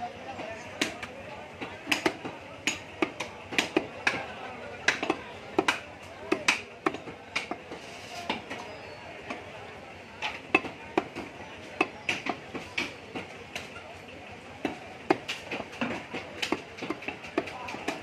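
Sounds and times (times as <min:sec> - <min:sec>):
cleaver chopping meat on wood: 0:00.8 - 0:09.5, 0:10.2 - 0:13.7, 0:14.6 - 0:18.0.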